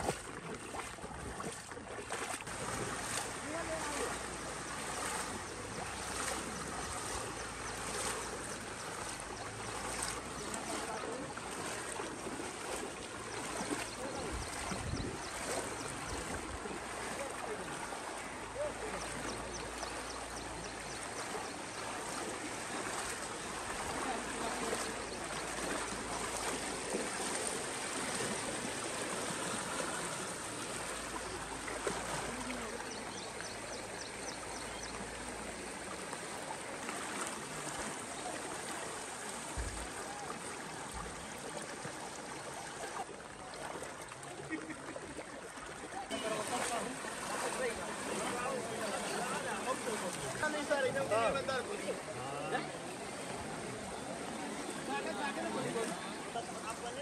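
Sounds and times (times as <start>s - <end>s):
floodwater rushing: 0.0s - 57.0s
faint voices: 2.5s - 57.0s.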